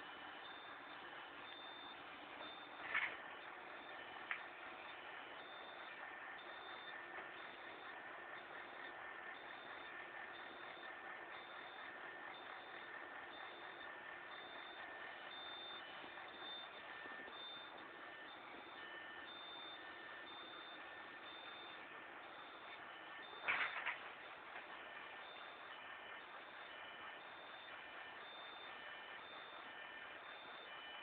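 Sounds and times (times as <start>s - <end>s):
faint electronic beeping: 0.0s - 31.0s.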